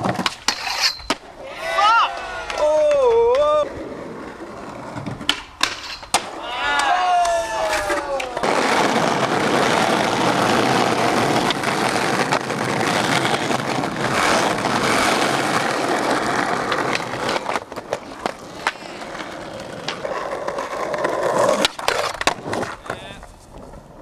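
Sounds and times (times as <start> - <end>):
loud skateboard crack: 0.0 - 1.3, 2.2 - 24.0
skateboard clacks and knocks: 0.0 - 1.3, 2.1 - 24.0
skateboard wheels rolling on tarmac: 0.0 - 24.0.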